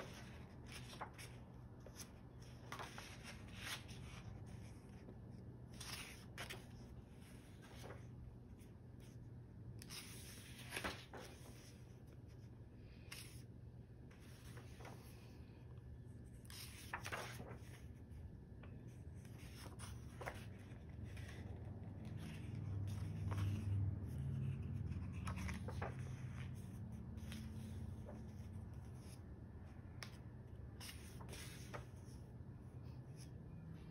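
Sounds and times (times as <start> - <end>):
paper pages turning: 0.0 - 9.1, 9.8 - 15.4, 16.1 - 29.2, 29.9 - 32.4
low background hum: 0.0 - 33.9.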